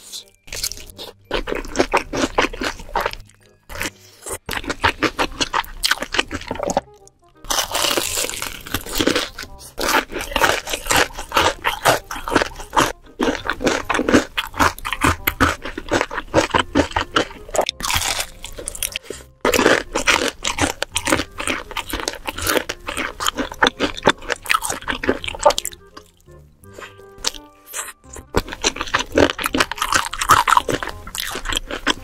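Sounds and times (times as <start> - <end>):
crunching fried chicken: 0.0 - 32.0.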